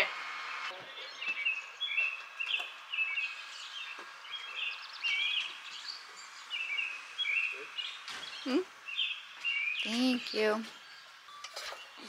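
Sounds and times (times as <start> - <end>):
faint outdoor hiss: 0.0 - 12.0
songbird chirping: 0.5 - 12.0.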